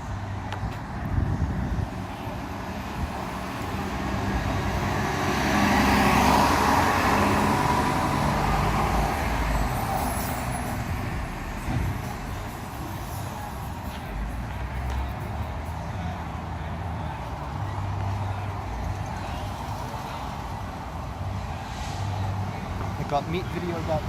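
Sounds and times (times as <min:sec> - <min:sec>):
vehicle passing: 0:01.1 - 0:24.0.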